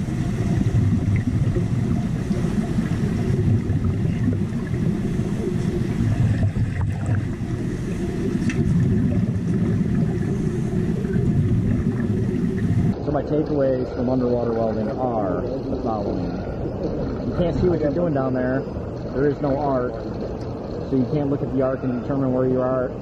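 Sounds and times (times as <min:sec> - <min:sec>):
diver's exhaust bubbles: 0:00.0 - 0:23.0
underwater welding arc bubbling: 0:00.0 - 0:23.0.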